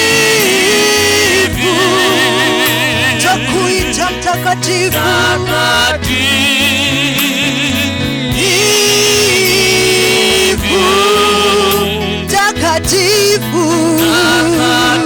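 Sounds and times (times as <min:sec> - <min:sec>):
bass line: 0:00.0 - 0:15.0
keyboard backing: 0:00.0 - 0:15.0
person singing with vibrato: 0:00.0 - 0:15.0.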